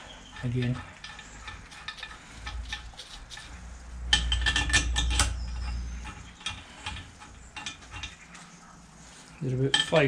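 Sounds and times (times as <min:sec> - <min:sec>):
low handling rumble: 0:00.0 - 0:09.4
metal bolts clinking: 0:00.3 - 0:08.5, 0:09.6 - 0:10.0.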